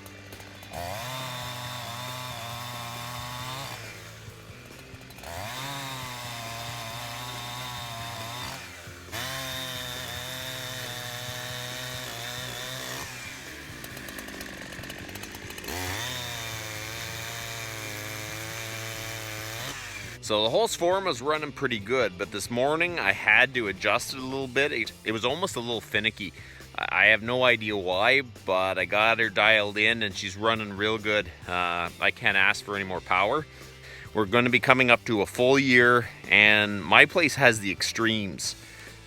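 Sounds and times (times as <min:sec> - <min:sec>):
chainsaw cutting log: 0:00.0 - 0:39.0.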